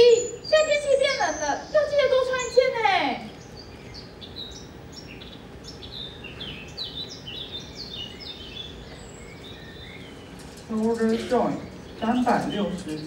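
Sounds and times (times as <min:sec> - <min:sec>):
small birds chirping: 0:00.0 - 0:13.0
steady low hiss: 0:00.0 - 0:13.0.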